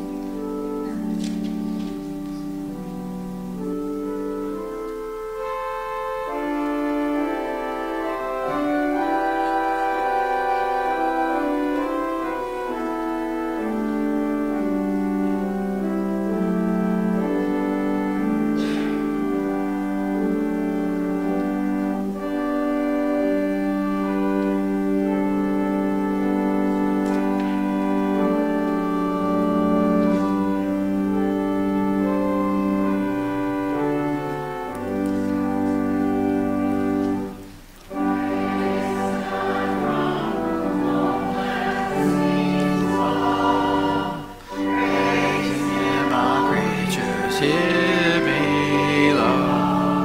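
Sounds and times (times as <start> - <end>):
organ playing chords: 0.0 - 50.0.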